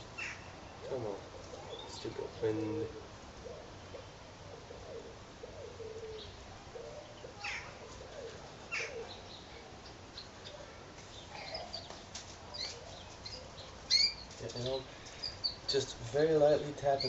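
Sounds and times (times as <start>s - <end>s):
birds cooing: 0.0s - 17.0s.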